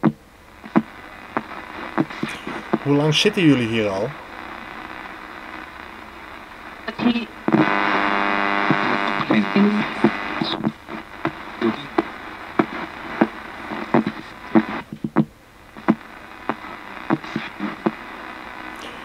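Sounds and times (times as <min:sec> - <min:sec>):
radio static buzz and blips: 0:00.0 - 0:19.0
radio station fragments: 0:00.5 - 0:14.9, 0:15.7 - 0:19.0.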